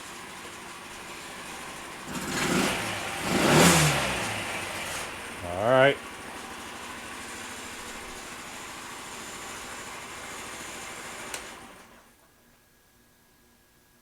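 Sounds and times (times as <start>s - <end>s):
scooter engine idling: 0.0s - 12.1s.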